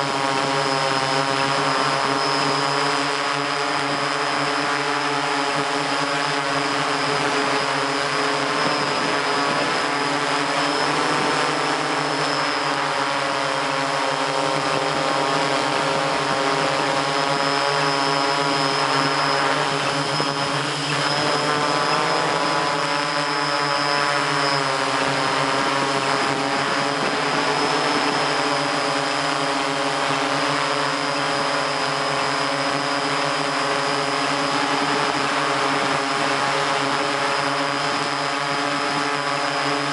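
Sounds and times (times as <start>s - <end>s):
drone motors and propellers whining: 0.0s - 39.9s.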